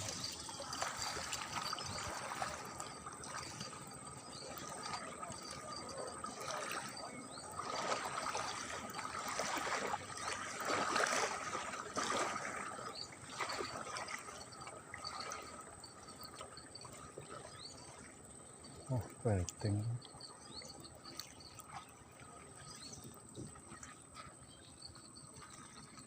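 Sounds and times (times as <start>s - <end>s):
faint high insect whine: 0.0s - 26.0s
water trickling and splashing: 0.0s - 26.0s.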